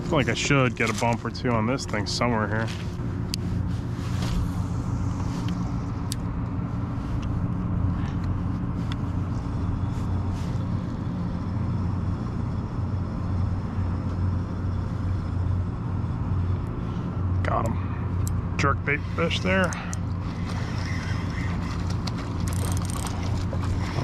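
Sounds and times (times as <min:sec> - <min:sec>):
low mechanical drone: 0:00.0 - 0:24.0.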